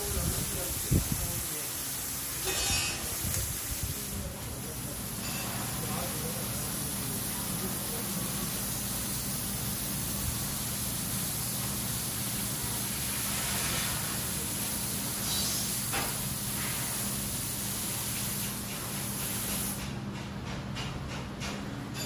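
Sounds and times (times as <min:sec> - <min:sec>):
laser cutter hissing: 0:00.0 - 0:19.8.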